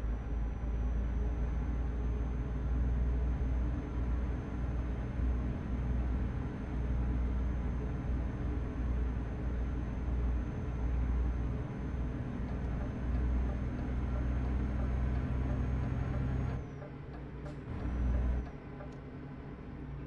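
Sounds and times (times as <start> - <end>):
truck engine droning in cab: 0.0 - 20.0.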